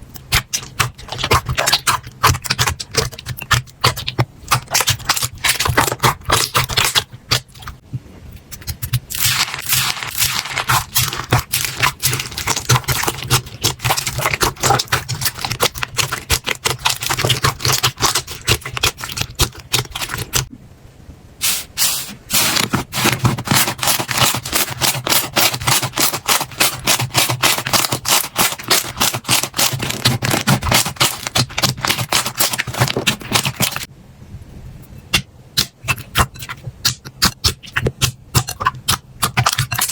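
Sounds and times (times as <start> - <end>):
slime crackling and popping: 0.2 - 7.7, 8.6 - 20.5, 22.4 - 33.9, 35.6 - 39.9.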